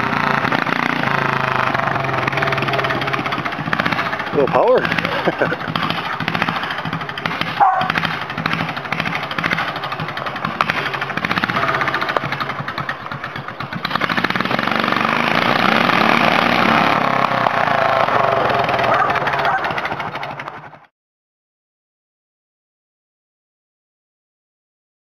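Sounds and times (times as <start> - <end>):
tractor engine at full power: 0.0 - 20.9.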